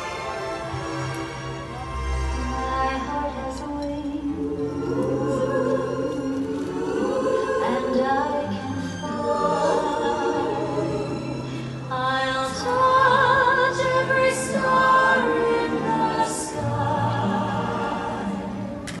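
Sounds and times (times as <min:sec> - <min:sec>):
orchestral music: 0:00.0 - 0:19.0.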